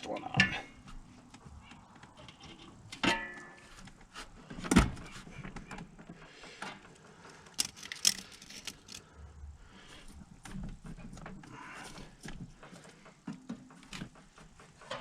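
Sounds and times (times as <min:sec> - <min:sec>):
metal clicks and knocks: 0:00.0 - 0:09.1, 0:10.4 - 0:15.0.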